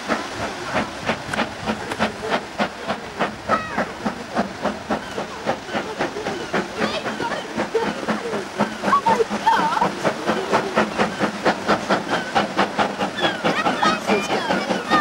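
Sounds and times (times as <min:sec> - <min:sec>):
steam hissing: 0:00.0 - 0:15.0
steam locomotive exhaust beats: 0:00.0 - 0:15.0.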